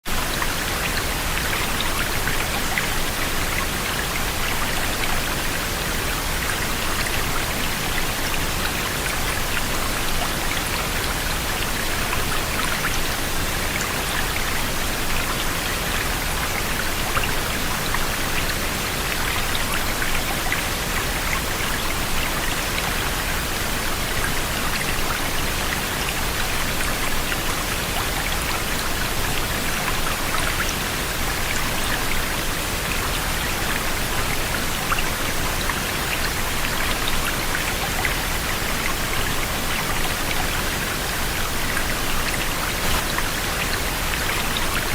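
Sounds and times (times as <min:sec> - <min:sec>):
waterfall rushing: 0:00.1 - 0:44.9.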